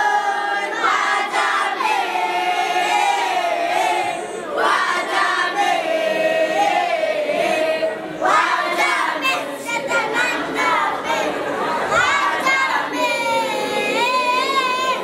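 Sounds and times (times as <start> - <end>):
boys' choir singing in unison: 0.0 - 15.0.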